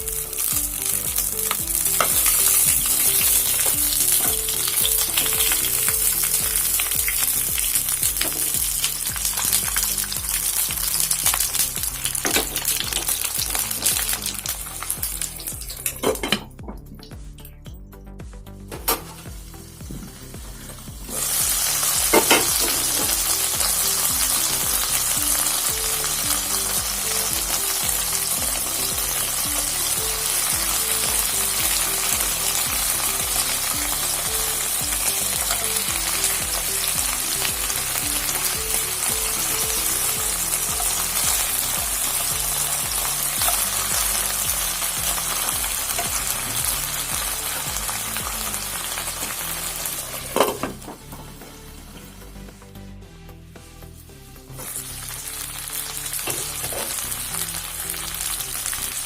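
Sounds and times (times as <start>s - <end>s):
fish sizzling in oil: 0.0s - 16.5s, 18.9s - 50.9s, 53.9s - 59.0s.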